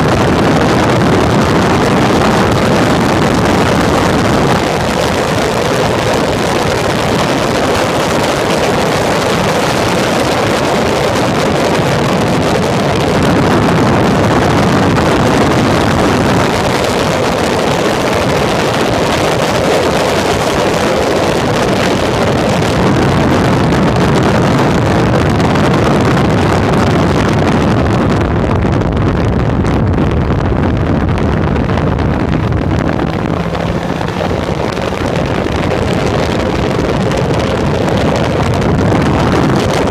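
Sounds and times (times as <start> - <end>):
racing car engine: 0.0 - 25.3, 31.1 - 39.9
wind rush on microphone: 0.0 - 39.9.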